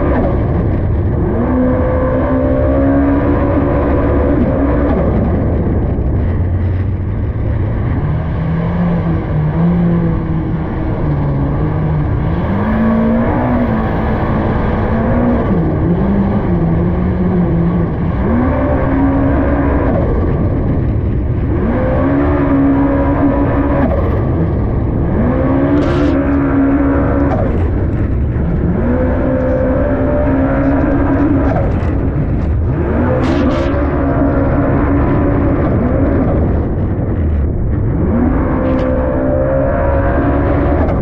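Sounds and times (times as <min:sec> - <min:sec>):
personal watercraft engine revving: 0:00.0 - 0:41.0.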